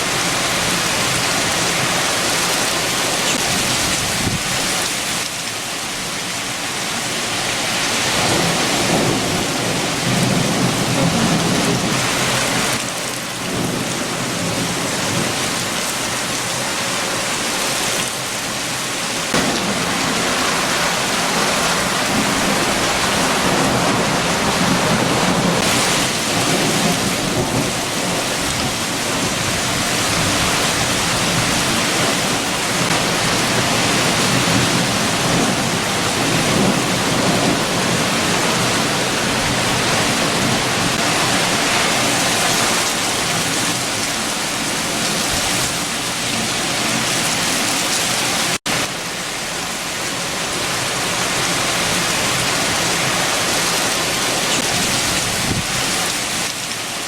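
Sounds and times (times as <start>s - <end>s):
heavy rain: 0.0s - 57.0s
strong wind: 0.0s - 57.0s.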